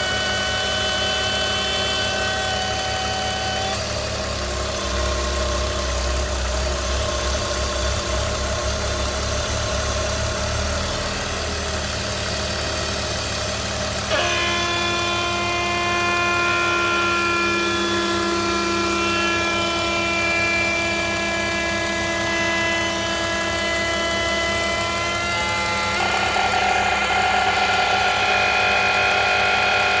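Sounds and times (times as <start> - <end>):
car engine idling: 0.0 - 14.2, 14.9 - 30.0.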